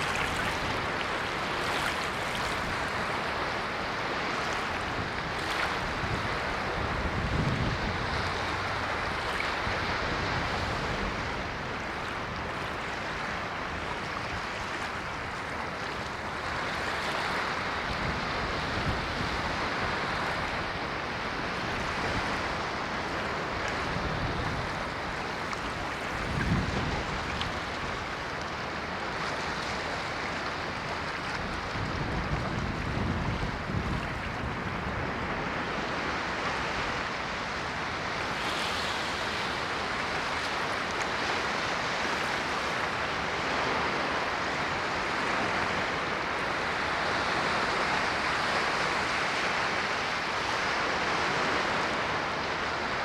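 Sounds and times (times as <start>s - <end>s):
ocean surf hissing: 0.0s - 53.0s.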